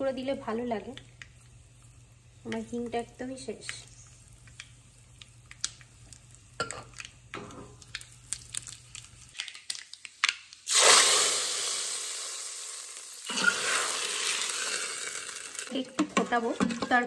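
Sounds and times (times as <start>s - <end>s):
loud sizzle of hot oil: 0.0s - 15.9s
leaves and chillies crackling in ghee: 0.0s - 16.7s.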